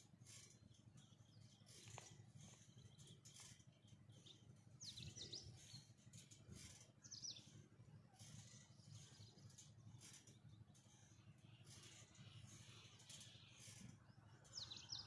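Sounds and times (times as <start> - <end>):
faint high bird chirps: 0.2 - 15.0.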